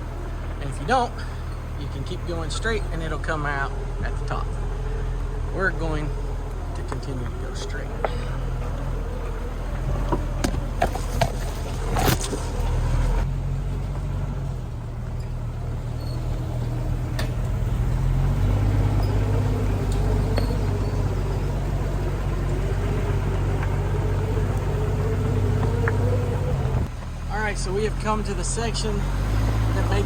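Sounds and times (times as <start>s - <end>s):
car engine running: 0.0s - 30.0s
sharp knocks and rattles: 0.0s - 30.0s.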